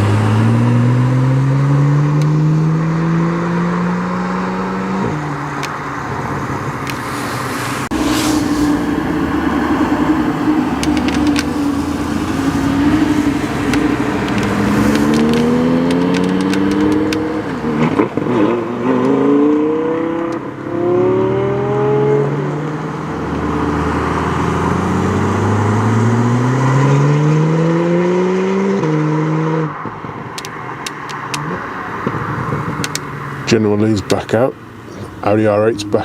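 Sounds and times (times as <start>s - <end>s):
car engine accelerating through gears: 0.0s - 36.0s.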